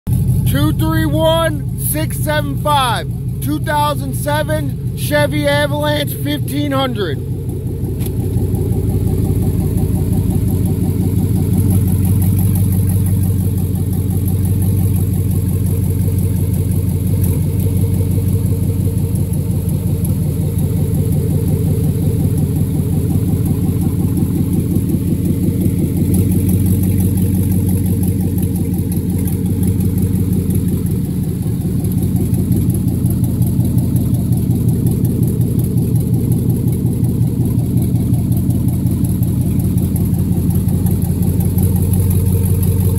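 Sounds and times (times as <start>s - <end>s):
car engine idling: 0.1s - 42.9s.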